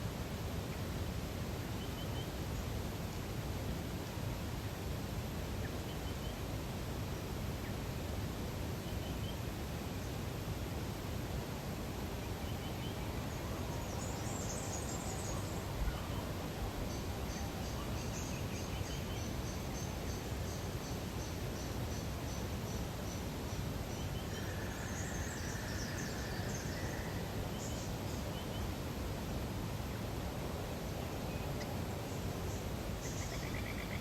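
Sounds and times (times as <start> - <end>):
outdoor ambience hiss: 0.0 - 34.0.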